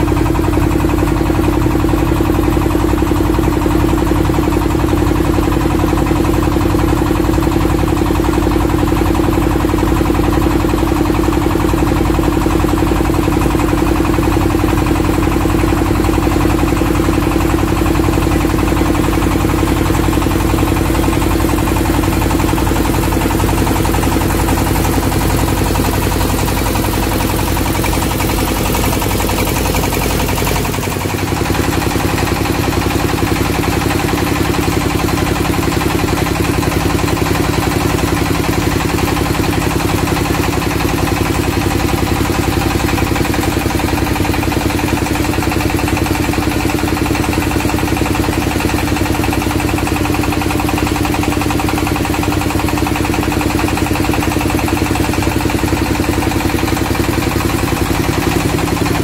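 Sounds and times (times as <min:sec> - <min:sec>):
boat engine humming: 0:00.0 - 0:59.0
water rushing along hull: 0:00.0 - 0:59.0.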